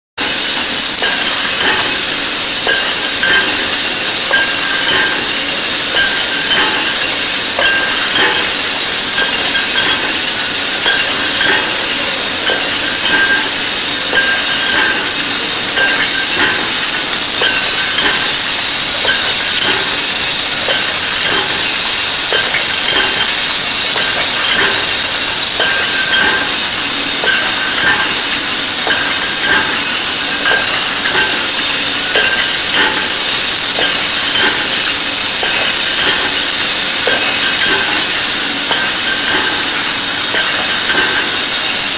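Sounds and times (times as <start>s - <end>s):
bottling machine hissing: 0.2s - 41.9s
glass bottles clinking: 0.2s - 41.9s.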